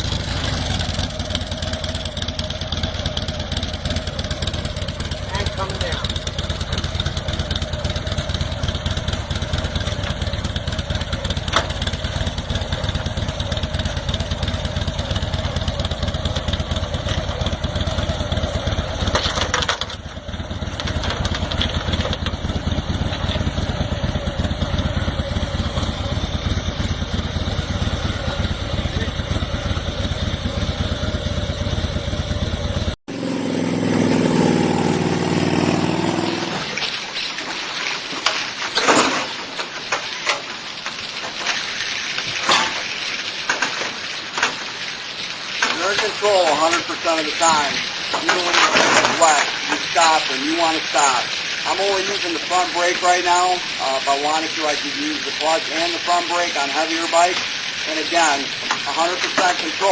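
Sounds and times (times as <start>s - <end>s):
motorcycle engine idling: 0.0s - 36.7s, 38.3s - 59.9s.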